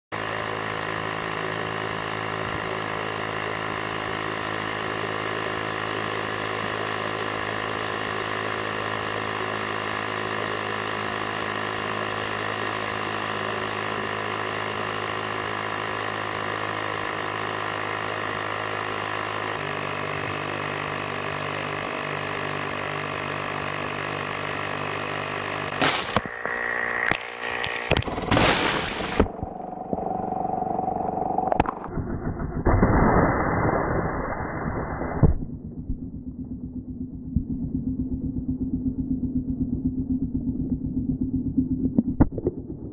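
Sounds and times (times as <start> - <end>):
motorised hum: 0.1 - 42.9.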